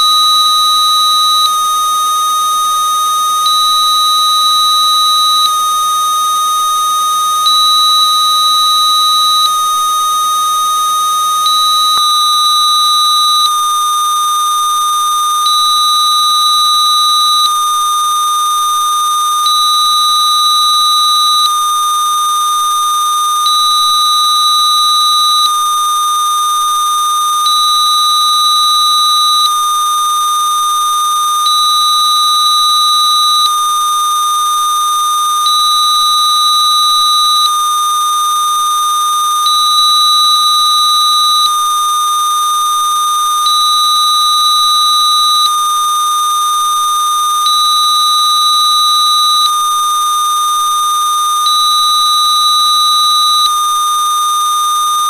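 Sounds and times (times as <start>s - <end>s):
steady electronic sine tone: 0.0s - 55.0s.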